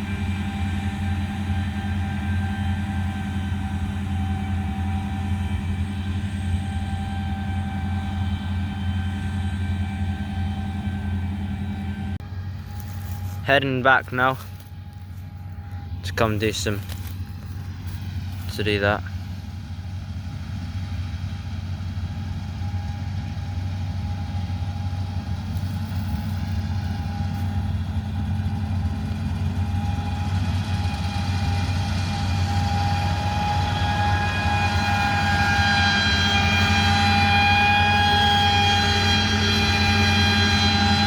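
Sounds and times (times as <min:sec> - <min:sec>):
farm machinery engine running: 0:00.0 - 0:41.0
high whine: 0:00.0 - 0:41.0.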